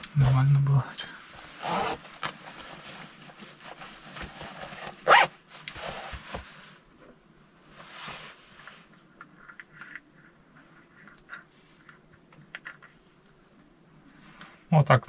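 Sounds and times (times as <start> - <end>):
clothing rustling and scraping: 0.0 - 12.3.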